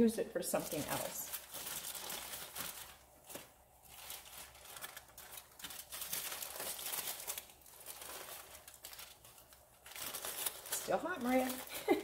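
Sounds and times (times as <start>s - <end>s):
aluminium foil crinkling: 0.4s - 12.0s.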